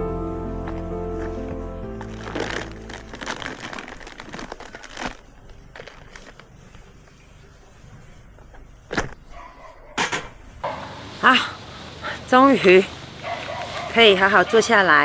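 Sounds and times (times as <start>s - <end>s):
rustling and crinkling: 0.7s - 9.5s, 10.6s - 15.0s.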